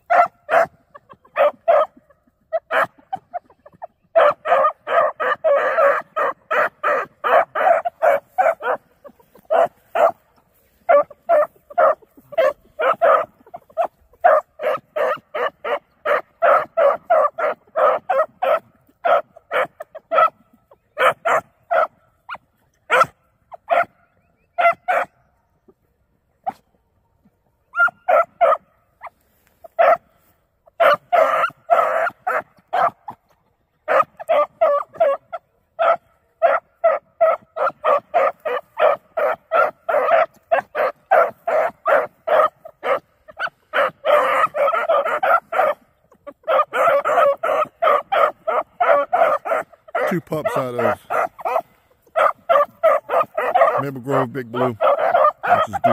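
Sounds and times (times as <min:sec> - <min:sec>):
puppies barking: 0:00.0 - 0:25.8, 0:27.7 - 0:55.9.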